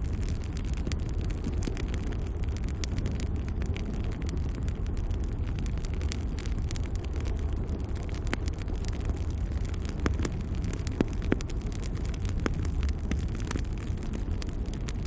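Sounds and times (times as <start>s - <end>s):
fire roaring: 0.0s - 15.0s
logs crackling and popping: 0.0s - 15.0s.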